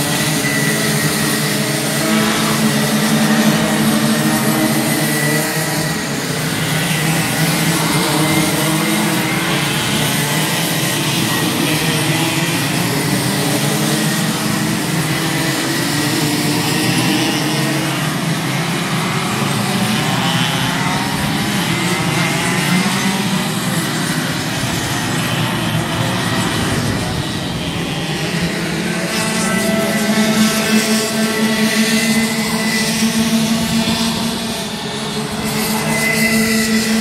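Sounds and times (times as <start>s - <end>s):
kart engines revving: 0.0s - 37.0s.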